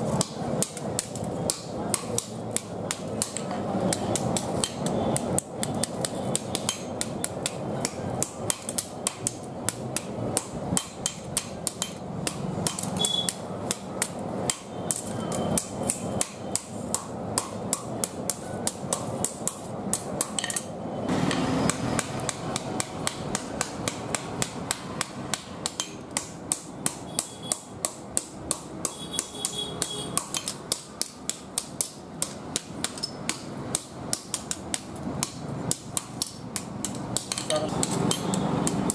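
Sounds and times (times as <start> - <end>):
hammer beating blade on anvil: 0.2 - 38.9.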